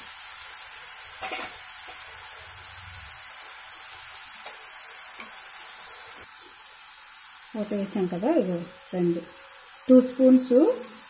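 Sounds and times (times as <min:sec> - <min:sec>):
onion paste sizzling in oil: 0:00.0 - 0:11.0.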